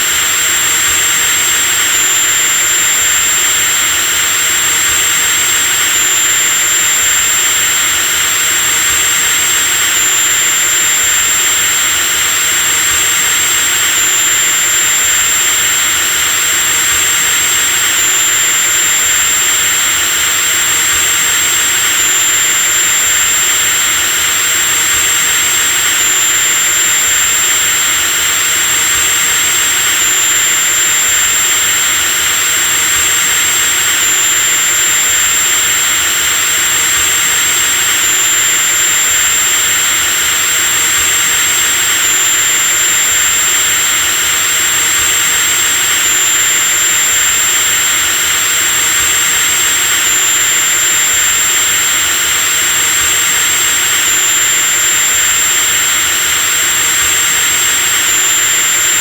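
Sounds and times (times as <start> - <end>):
electric drill whining: 0.0 - 59.0.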